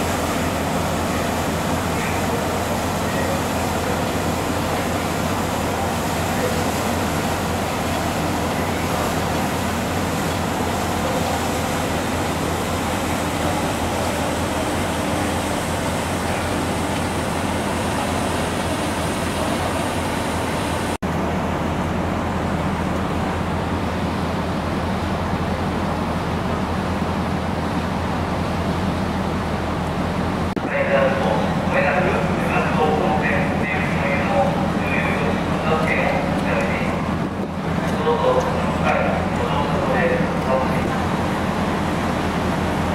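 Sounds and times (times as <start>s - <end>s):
ship engine rumble: 0.0s - 42.9s
water wash of wake: 0.0s - 42.9s.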